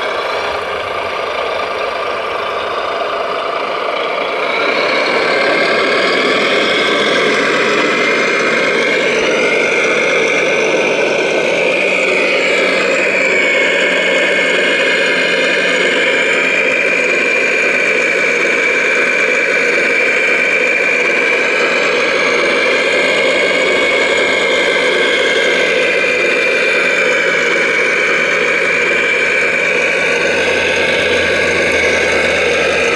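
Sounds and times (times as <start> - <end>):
dense mechanical hum: 0.0 - 32.9
motor whine: 0.0 - 32.9.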